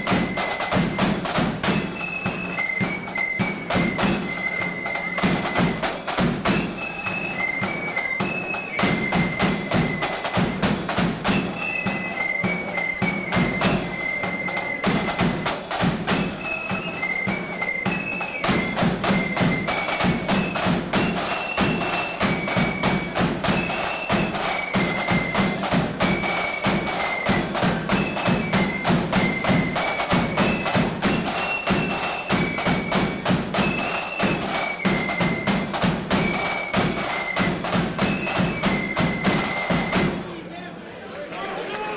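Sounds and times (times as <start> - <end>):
flutes playing melody: 0.0 - 40.4
rapid drumming: 0.0 - 40.4.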